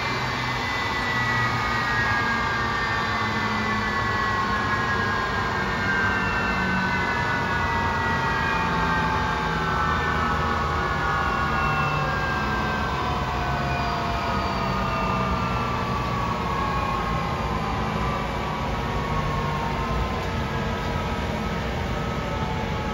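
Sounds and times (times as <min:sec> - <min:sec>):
jet engine whine spooling down: 0:00.0 - 0:22.9.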